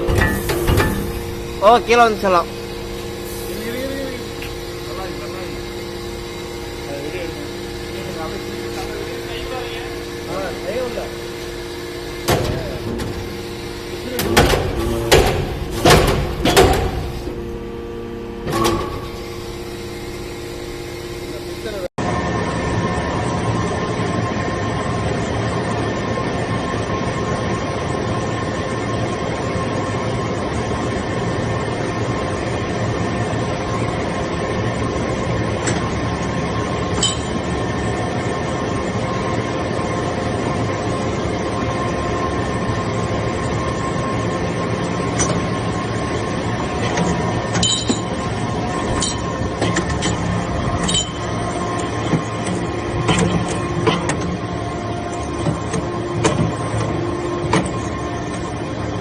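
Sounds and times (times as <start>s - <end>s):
baler machine hum and whine: 0.0s - 59.0s.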